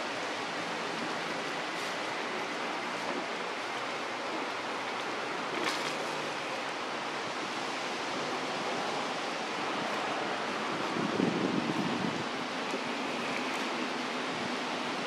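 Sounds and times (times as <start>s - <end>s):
steady outdoor rushing noise: 0.0s - 15.0s.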